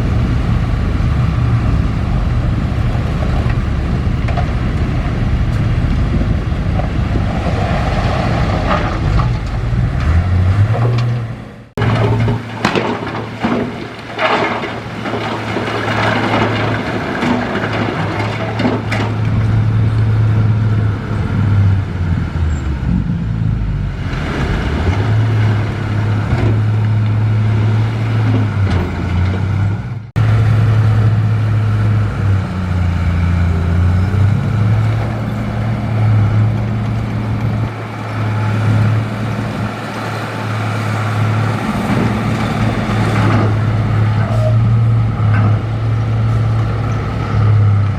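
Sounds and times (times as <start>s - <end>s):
diesel machinery engine running: 0.0s - 47.9s.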